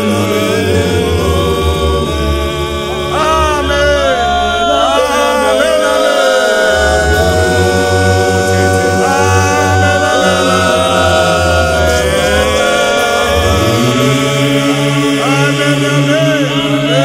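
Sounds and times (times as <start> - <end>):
mixed choir singing a cappella: 0.0 - 17.0.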